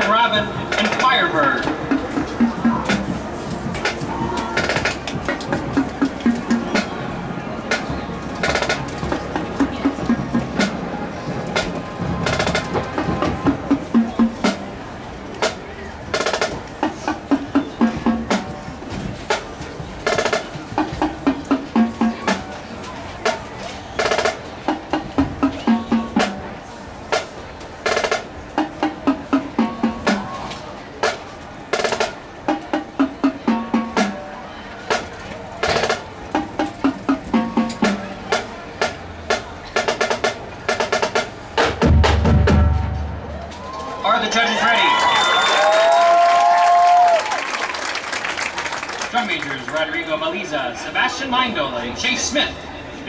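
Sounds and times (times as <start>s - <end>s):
marching drumline cadence: 0.0s - 53.0s.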